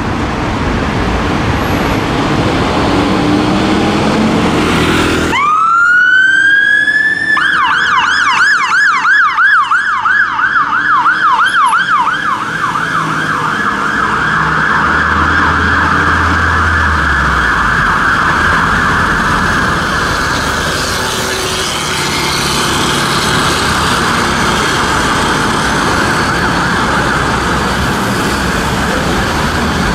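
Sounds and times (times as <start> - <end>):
fire engine electronic siren: 2.4 - 29.9.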